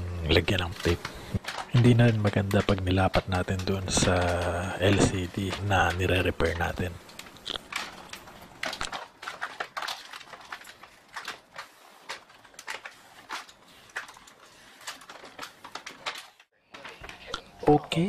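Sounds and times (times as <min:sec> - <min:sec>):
plastic film crackling as peeled: 0:00.3 - 0:17.4.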